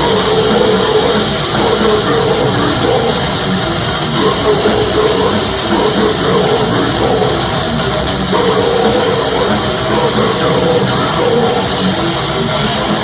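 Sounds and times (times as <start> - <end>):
distorted electric guitars: 0.0 - 13.0
drum kit: 0.0 - 13.0.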